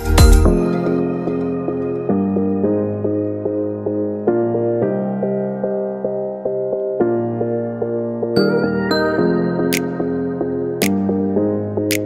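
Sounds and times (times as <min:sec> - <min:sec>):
light electronic music: 0:00.0 - 0:12.0.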